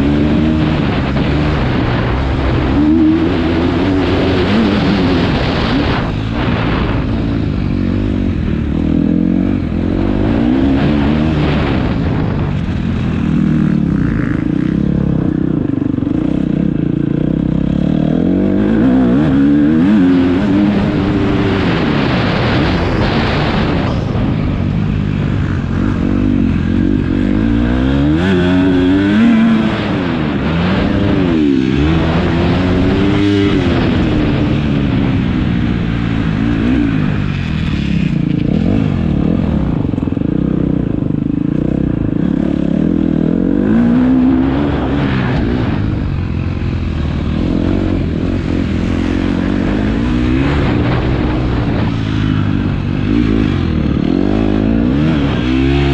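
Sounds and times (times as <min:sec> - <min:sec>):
motocross bike engines revving: 0:00.0 - 0:55.9.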